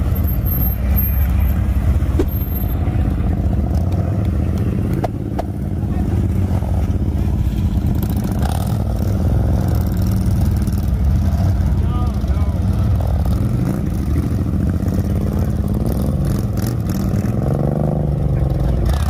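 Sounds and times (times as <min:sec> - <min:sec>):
motorcycle engines idling: 0:00.0 - 0:19.0.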